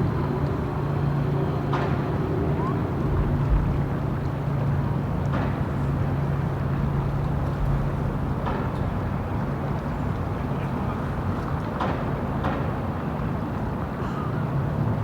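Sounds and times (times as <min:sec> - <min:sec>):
traffic hum and rumble: 0:00.0 - 0:15.0.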